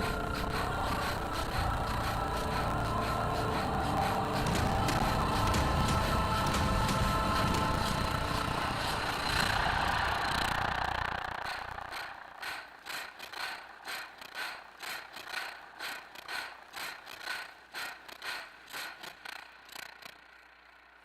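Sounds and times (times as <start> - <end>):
rhythmic mechanical clicking: 0.0 - 21.0.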